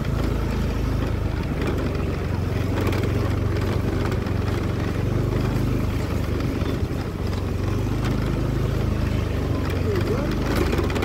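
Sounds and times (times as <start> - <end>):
motorbike engine idling: 0.0 - 11.0.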